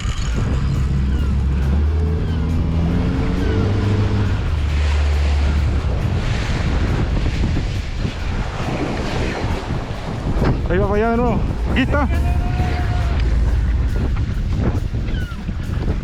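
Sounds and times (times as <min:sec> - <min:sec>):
boat motor humming: 0:00.0 - 0:16.0
water washing against hull: 0:00.0 - 0:16.0
wind buffeting microphone: 0:00.0 - 0:16.0.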